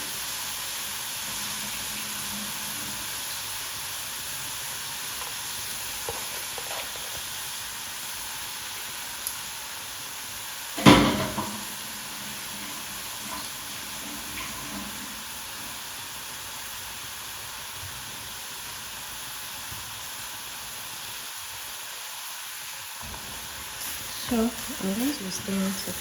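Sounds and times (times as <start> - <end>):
onions and rice sizzling in oil: 0.0 - 26.0.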